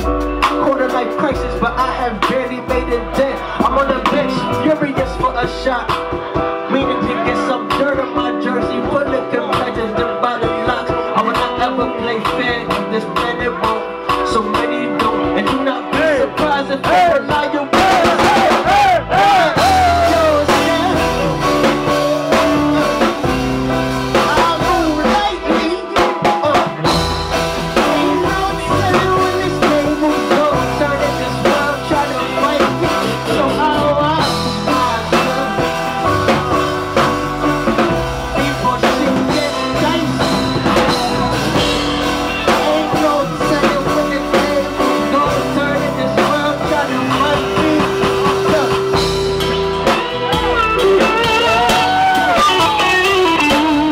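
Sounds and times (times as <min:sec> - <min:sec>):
person rapping into a microphone: 0:00.0 - 0:49.2
hip-hop backing track with drum beat: 0:00.0 - 0:53.9.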